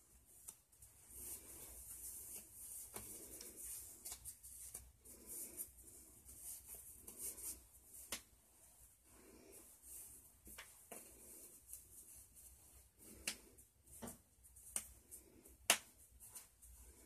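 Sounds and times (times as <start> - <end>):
rustling and rubbing of handling: 0.0 - 17.0.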